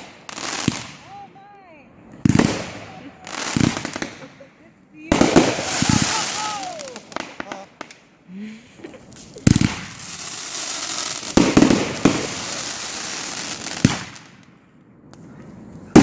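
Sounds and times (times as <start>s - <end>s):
hissing crackle of fireworks: 0.0s - 1.3s, 1.9s - 16.0s
fireworks bangs: 0.0s - 1.5s, 2.1s - 14.5s, 15.2s - 16.0s.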